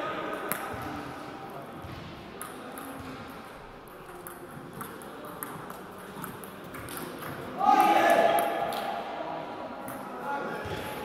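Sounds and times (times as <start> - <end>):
low hum of hall: 0.0 - 11.0.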